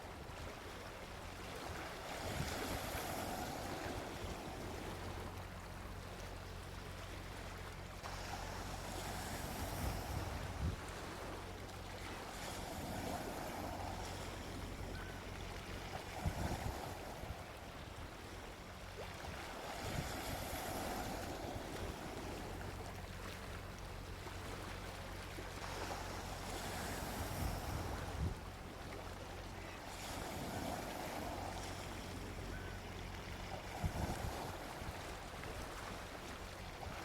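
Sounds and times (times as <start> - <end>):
ocean waves washing onto beach: 0.0 - 37.0.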